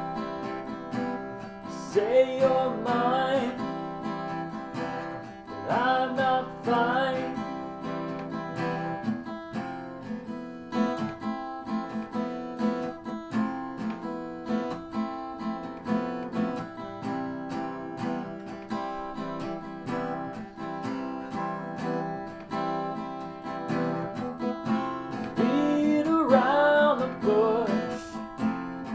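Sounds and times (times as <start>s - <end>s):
acoustic guitar strumming: 0.0s - 28.9s.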